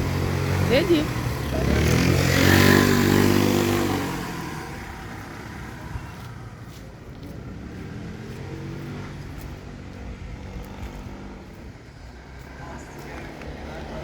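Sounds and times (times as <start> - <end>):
traffic rumble: 0.0 - 14.0
vehicle engine passing: 0.0 - 14.0.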